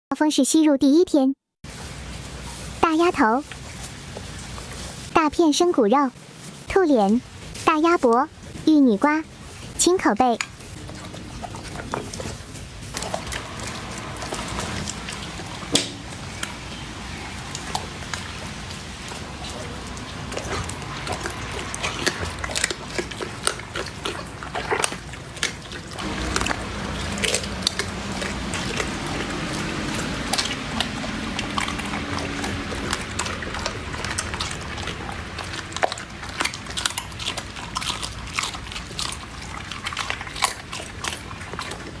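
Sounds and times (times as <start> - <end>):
dog chewing and crunching food: 1.6 - 42.0.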